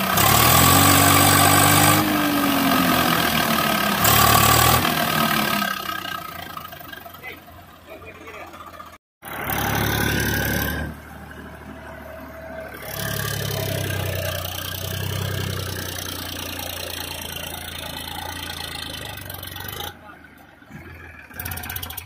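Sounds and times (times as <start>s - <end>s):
diesel tractor engines running: 0.0s - 22.0s.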